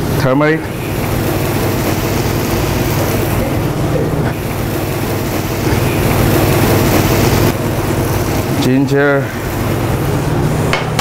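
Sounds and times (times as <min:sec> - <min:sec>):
ventilation drone: 0:00.0 - 0:11.0.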